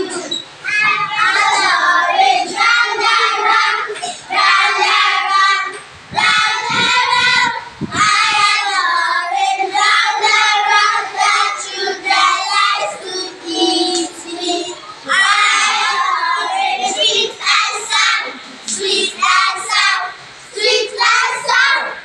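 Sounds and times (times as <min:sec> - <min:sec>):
young children singing: 0:00.0 - 0:22.0.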